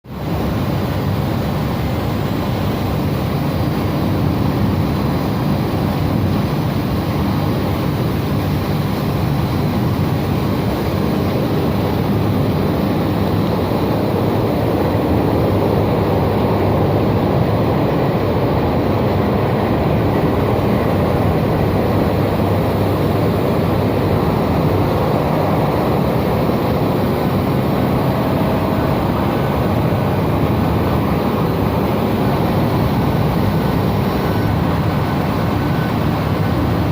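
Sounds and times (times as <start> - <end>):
electric furnace rumbling: 0.1 - 36.9.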